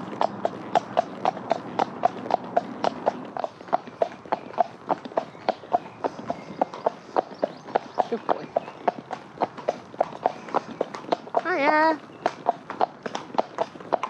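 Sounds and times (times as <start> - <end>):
horse hooves clip-clopping on road: 0.0 - 14.0.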